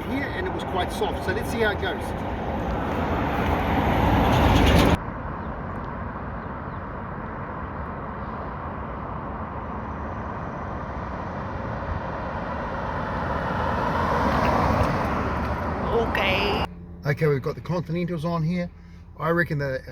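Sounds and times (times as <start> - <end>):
tyre road noise: 0.0 - 19.9.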